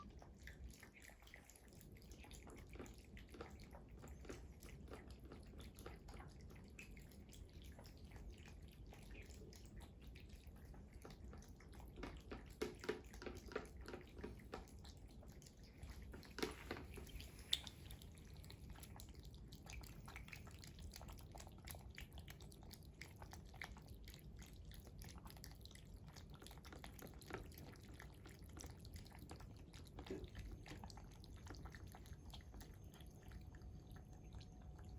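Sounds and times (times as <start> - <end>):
cats chewing food: 0.0 - 34.9.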